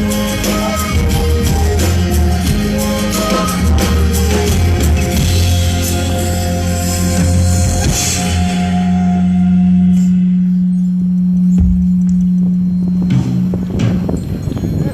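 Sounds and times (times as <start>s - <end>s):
band music with drum kit: 0.0s - 14.9s.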